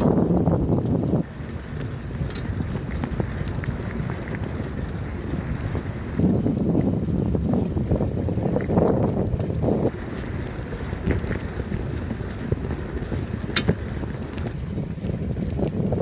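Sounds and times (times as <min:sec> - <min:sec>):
bicycle rattles and clicks: 0:00.0 - 0:16.0
bicycle tyre rumble on asphalt: 0:00.0 - 0:16.0
wind buffeting microphone: 0:00.0 - 0:16.0.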